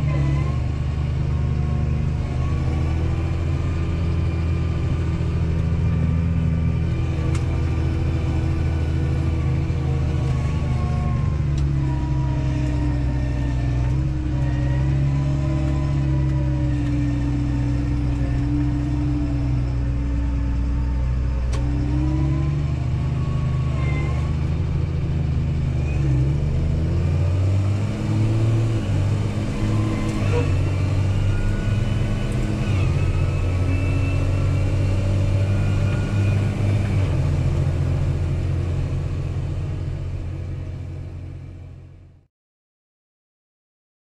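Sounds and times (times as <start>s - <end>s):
tractor engine running: 0.0s - 42.2s.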